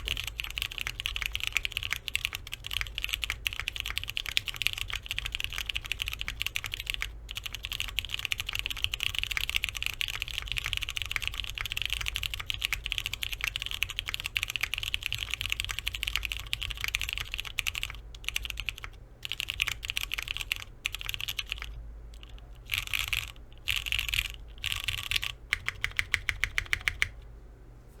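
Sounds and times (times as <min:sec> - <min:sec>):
keyboard keys clacking: 0:00.0 - 0:27.2.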